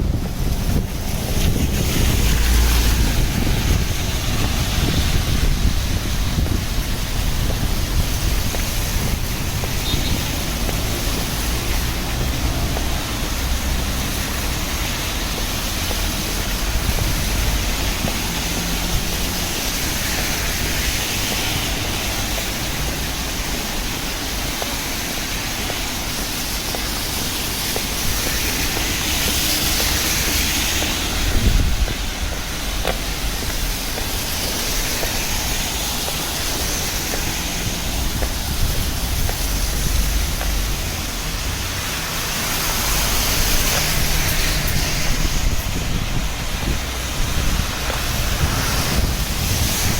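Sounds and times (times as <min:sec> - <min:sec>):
city street rumble: 0:00.0 - 0:49.9
rain hiss: 0:00.0 - 0:49.9.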